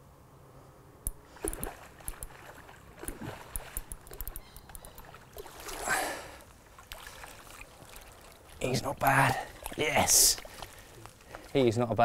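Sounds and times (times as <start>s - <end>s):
fish splashing in water: 1.2s - 11.5s.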